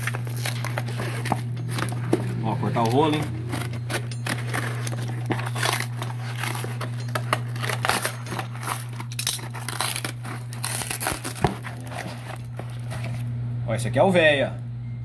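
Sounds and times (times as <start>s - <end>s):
cardboard flaps tearing and crinkling: 0.0s - 13.2s
knife slitting packing tape: 0.0s - 13.2s.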